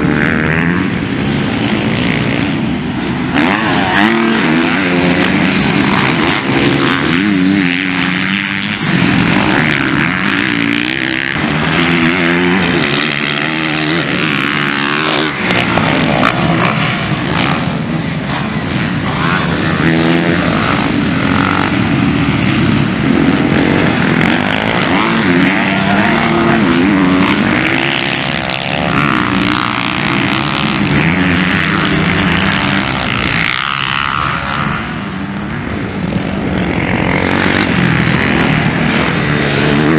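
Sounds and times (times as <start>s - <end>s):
motocross bikes revving past: 0.0s - 39.9s.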